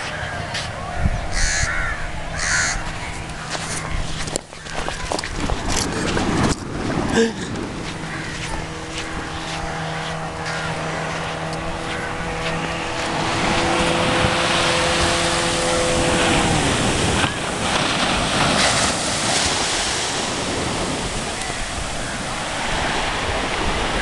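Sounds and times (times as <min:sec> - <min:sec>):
engine humming: 0:00.0 - 0:23.9
wind on microphone: 0:00.0 - 0:24.0
small waves breaking: 0:03.5 - 0:24.0.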